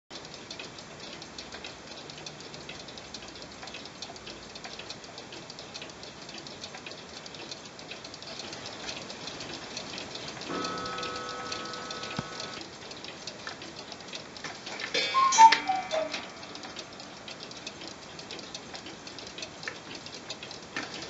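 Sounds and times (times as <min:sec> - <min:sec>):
clocks ticking: 0:00.1 - 0:21.0.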